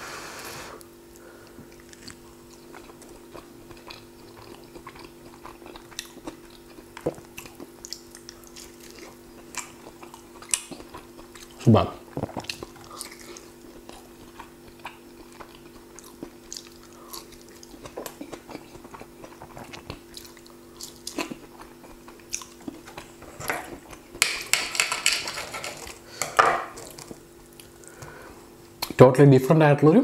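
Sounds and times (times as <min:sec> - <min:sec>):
faint steady hum: 0:00.0 - 0:30.0
person chewing and crunching: 0:01.1 - 0:28.2.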